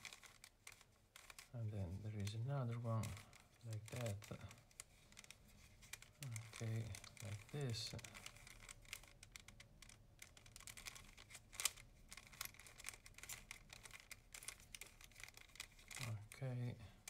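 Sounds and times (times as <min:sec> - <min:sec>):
plastic cube pieces clicking: 0:00.0 - 0:01.5, 0:02.7 - 0:16.5.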